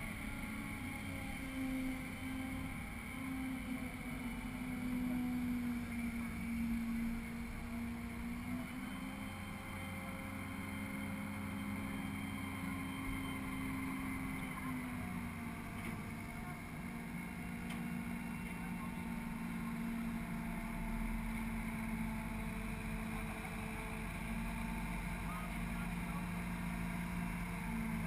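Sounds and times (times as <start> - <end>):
muffled crane engine hum: 0.0 - 28.0.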